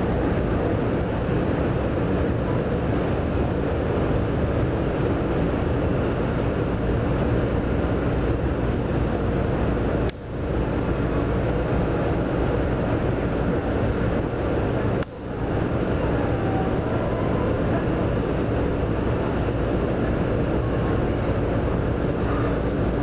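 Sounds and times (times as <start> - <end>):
train cabin running rumble: 0.0 - 23.0.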